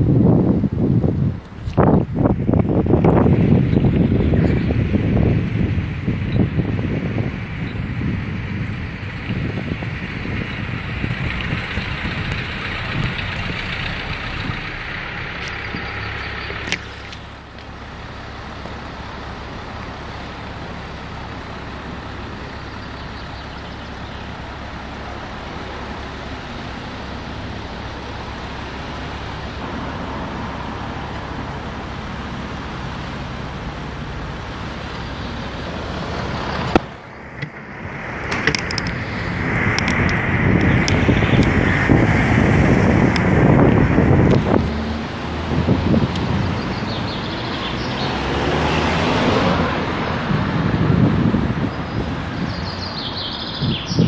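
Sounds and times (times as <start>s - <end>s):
road traffic rumble: 0.0s - 54.0s
wind rushing over microphone: 0.0s - 54.0s.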